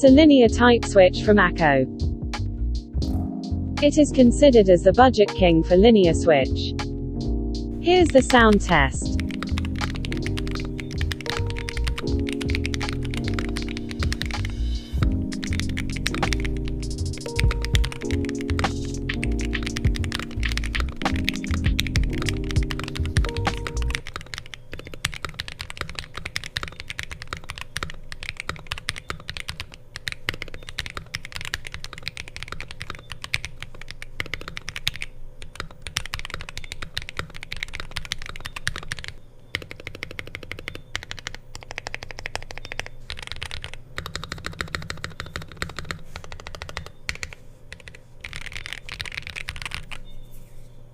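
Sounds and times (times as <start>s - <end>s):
mechanical keyboard typing: 7.8s - 50.1s.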